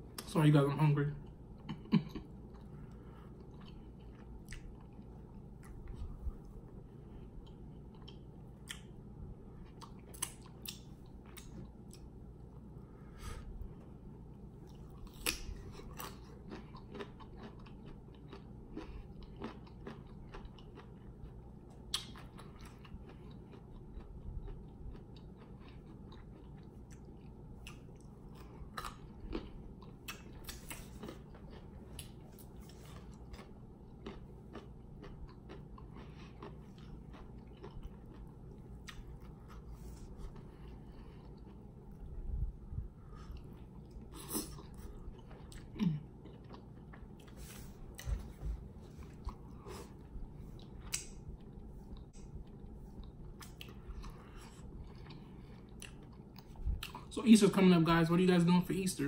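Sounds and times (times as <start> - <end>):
low steady hum: 0.0 - 59.0
chewing and lip smacking: 1.2 - 12.2, 14.6 - 57.1.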